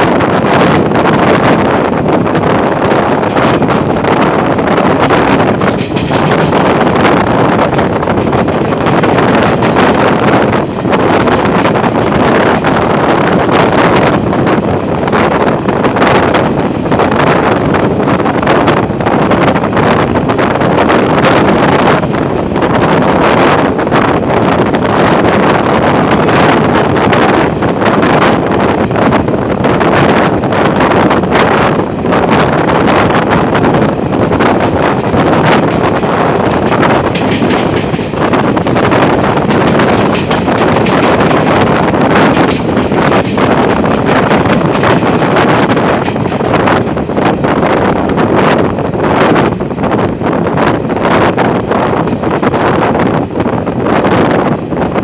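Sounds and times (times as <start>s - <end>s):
train running noise: 0.0s - 55.0s
wind buffeting microphone: 0.0s - 55.0s.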